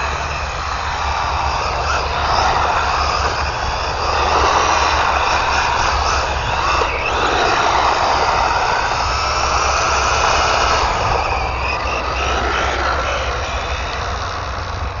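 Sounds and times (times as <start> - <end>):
electric motor whining: 0.0 - 15.0
tires on surface: 0.0 - 15.0.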